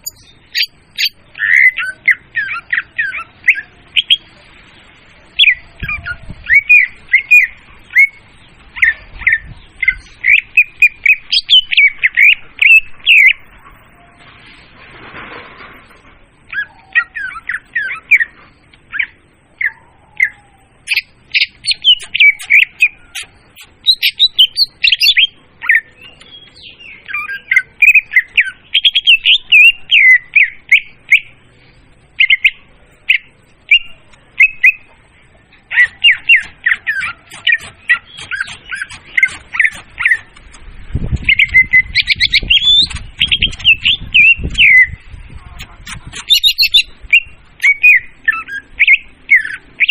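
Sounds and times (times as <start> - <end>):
bird song chirps and whistles: 0.0 - 4.3, 5.4 - 13.4, 16.5 - 31.4, 32.2 - 34.9, 35.7 - 49.9.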